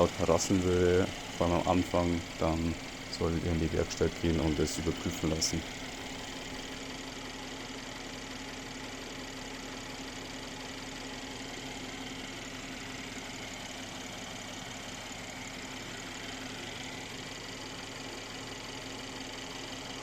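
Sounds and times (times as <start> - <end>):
car engine idling with light clacking: 0.0 - 20.0.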